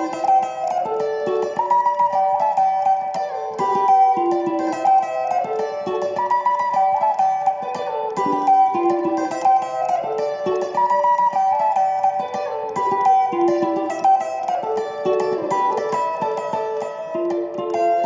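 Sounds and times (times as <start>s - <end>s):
guitar picking fast lead line: 0.0s - 18.0s.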